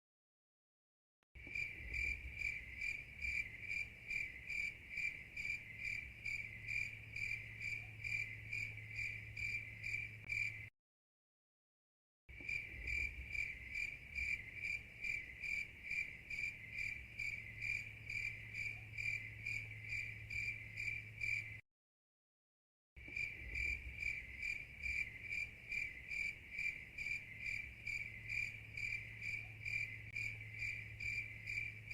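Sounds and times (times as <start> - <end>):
cricket chirping: 1.4 - 10.7, 12.3 - 21.6, 23.0 - 31.9.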